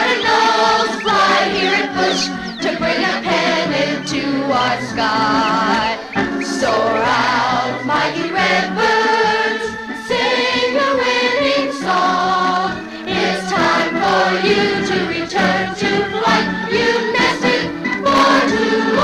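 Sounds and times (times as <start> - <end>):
children's choir singing: 0.0 - 19.0
organ accompaniment: 0.0 - 19.0.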